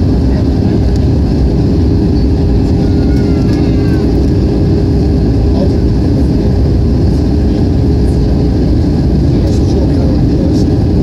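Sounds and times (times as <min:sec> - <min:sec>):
jet engine rumble: 0:00.0 - 0:11.0
rushing airflow: 0:00.0 - 0:11.0
steady hum: 0:00.0 - 0:11.0.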